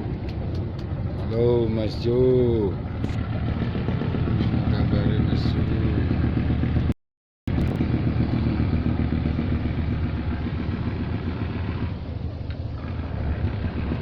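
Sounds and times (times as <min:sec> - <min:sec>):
boat diesel engine humming: 0:00.0 - 0:14.0.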